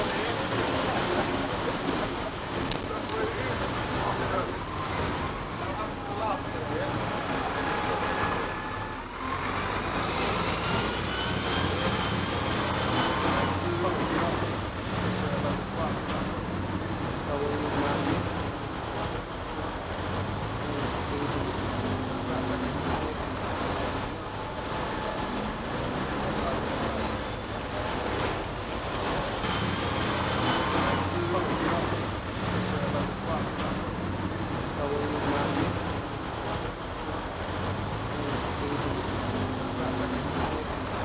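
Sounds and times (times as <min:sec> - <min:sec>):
bus engine passing with whine: 0:00.0 - 0:41.0
steady traffic noise: 0:00.0 - 0:41.0.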